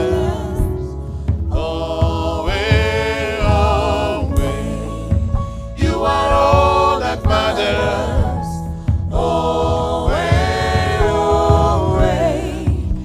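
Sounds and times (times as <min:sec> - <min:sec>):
low musical accompaniment: 0:00.0 - 0:13.0
vocal group singing in harmony: 0:00.0 - 0:13.0.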